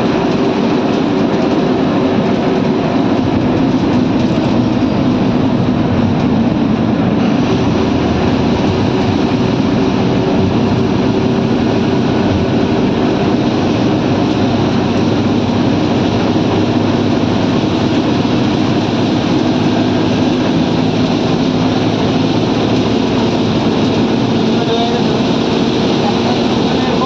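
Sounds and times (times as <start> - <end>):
road noise: 0.0 - 27.0
vehicle engine drone: 0.0 - 27.0.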